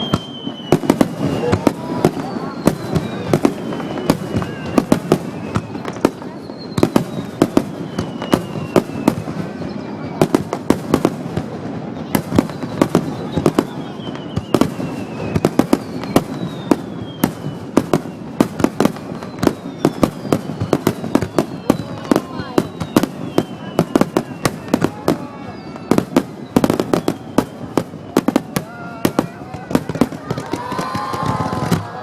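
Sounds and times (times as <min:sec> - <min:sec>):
firework whistles falling in pitch: 0:00.0 - 0:11.1, 0:11.9 - 0:32.0
fireworks banging: 0:00.0 - 0:32.0.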